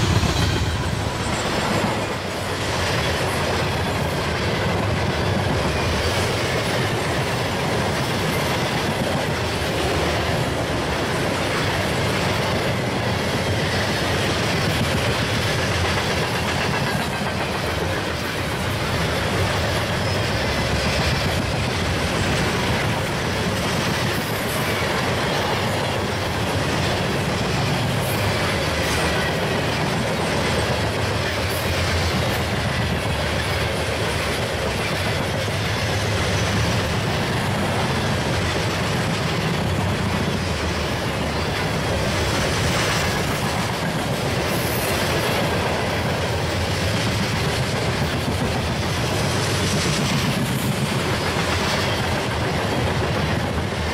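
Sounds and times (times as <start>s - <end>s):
train wheels running on rails: 0.0s - 53.9s.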